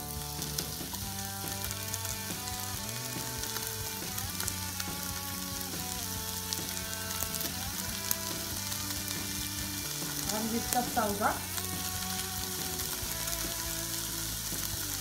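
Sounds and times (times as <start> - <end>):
background music: 0.0 - 15.0
food sizzling in a frying pan: 0.0 - 15.0.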